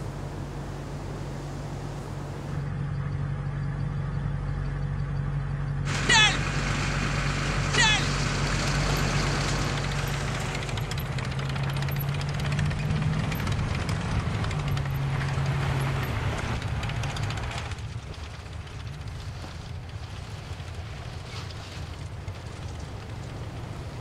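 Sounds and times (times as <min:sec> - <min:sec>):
military vehicle engine drone: 0:00.0 - 0:24.0.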